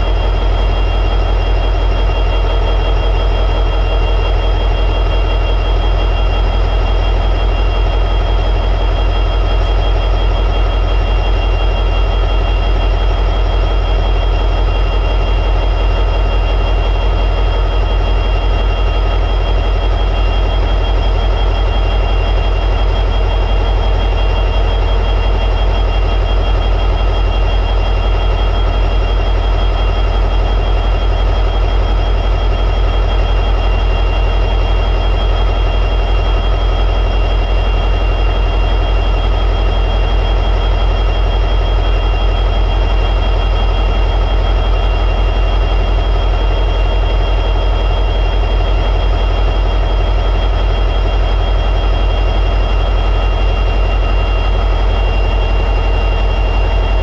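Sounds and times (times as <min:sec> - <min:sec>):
diesel locomotive engine idling: 0:00.0 - 0:57.0
high-pitched whine: 0:00.0 - 0:57.0.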